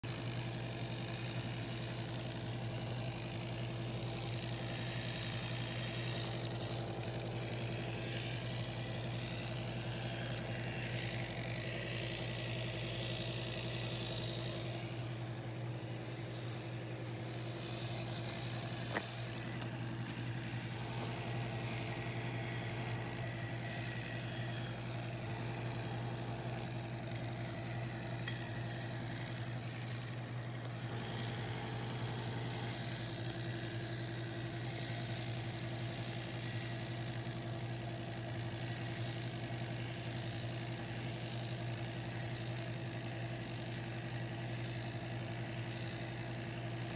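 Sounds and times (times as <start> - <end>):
toy train motor whirring: 0.0 - 46.9.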